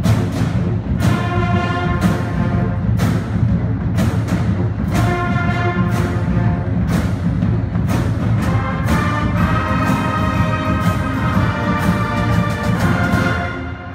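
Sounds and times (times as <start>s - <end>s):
bass drum strokes: 0.0s - 13.9s
brass band chords: 0.0s - 13.9s.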